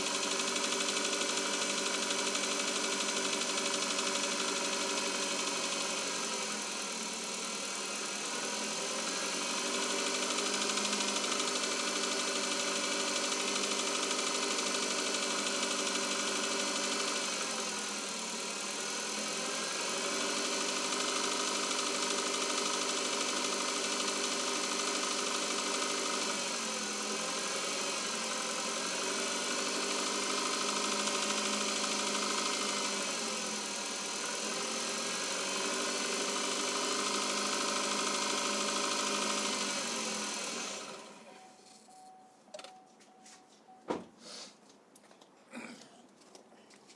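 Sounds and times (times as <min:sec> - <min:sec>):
car engine idling with knock: 0:00.0 - 0:41.2.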